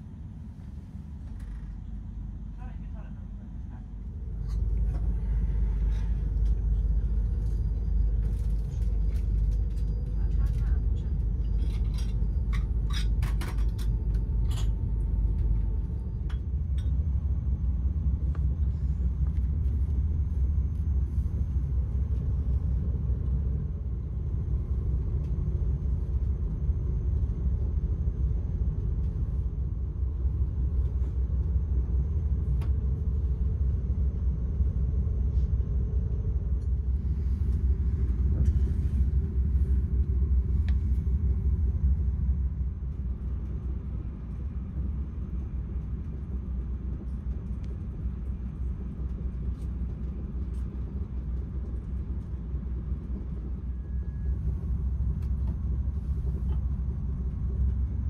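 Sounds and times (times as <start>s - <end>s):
train interior rumble: 0.0s - 58.0s.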